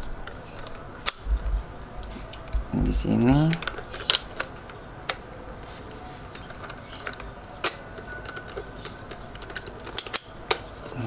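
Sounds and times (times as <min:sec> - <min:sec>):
metal clicks and taps: 0:00.2 - 0:05.2, 0:06.4 - 0:10.7.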